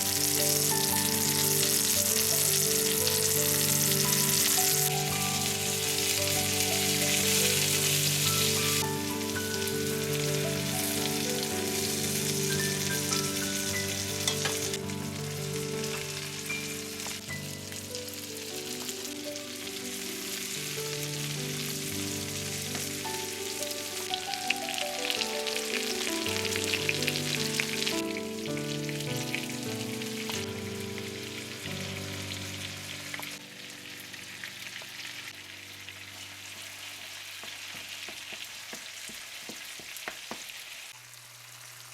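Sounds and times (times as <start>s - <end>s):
soft background music: 0.0s - 35.4s
food sizzling in frying pan: 0.0s - 41.9s.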